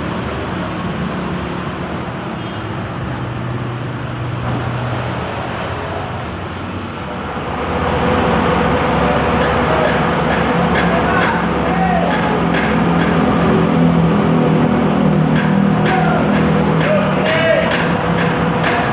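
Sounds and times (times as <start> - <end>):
bus engine running: 0.0 - 18.9
road and traffic noise: 0.0 - 18.9.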